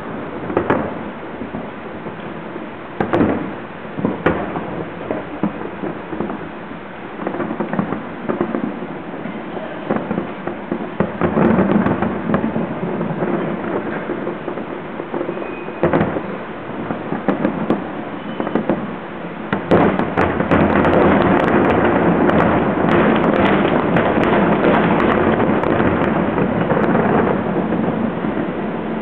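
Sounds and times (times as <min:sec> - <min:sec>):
fireworks bangs and pops: 0:00.0 - 0:29.0
fireworks crackling: 0:00.0 - 0:29.0.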